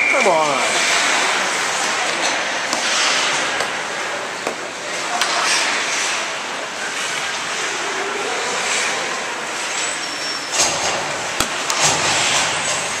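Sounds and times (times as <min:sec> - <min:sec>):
skates on ice: 0:00.0 - 0:13.0.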